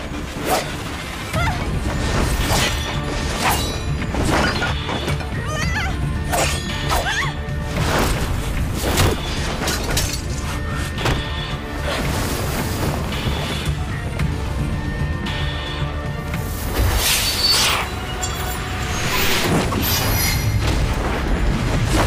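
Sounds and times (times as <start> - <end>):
dramatic film score: 0.0 - 22.0.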